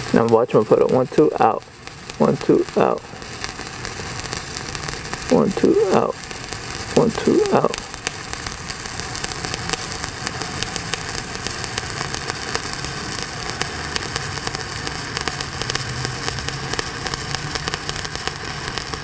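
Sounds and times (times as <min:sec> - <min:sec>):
welding arc crackling sizzle: 0:00.0 - 0:19.0.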